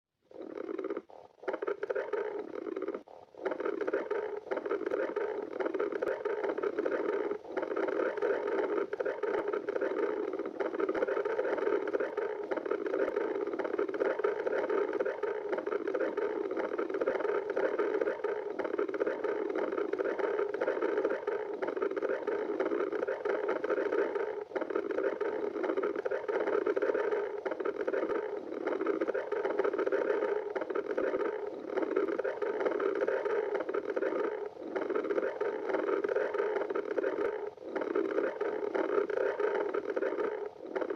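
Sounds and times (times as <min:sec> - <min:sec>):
stomach growling: 0:00.2 - 0:40.9.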